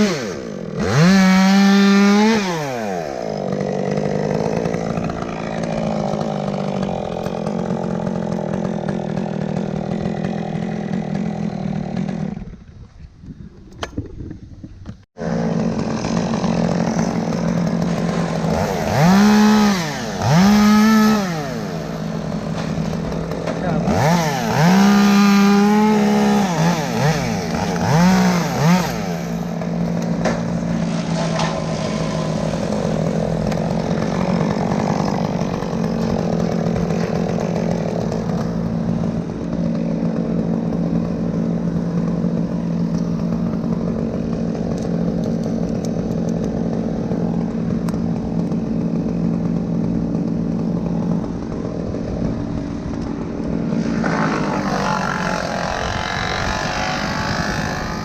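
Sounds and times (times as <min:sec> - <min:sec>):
chainsaw revving: 0:00.0 - 0:12.8, 0:15.2 - 0:58.0.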